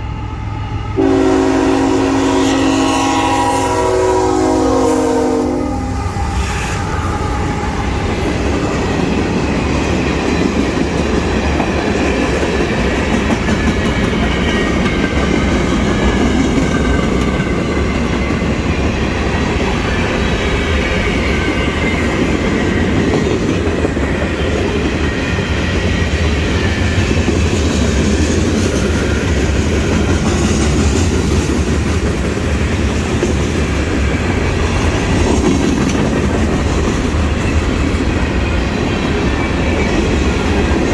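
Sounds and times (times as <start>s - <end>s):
freight train cars rolling past: 0.0s - 40.9s.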